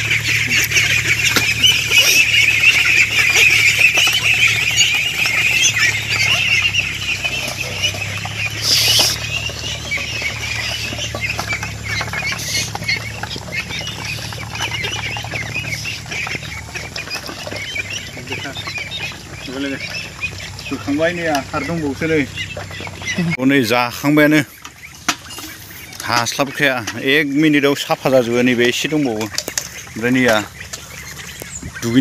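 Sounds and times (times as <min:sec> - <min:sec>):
ducklings calling: 0:00.0 - 0:32.0.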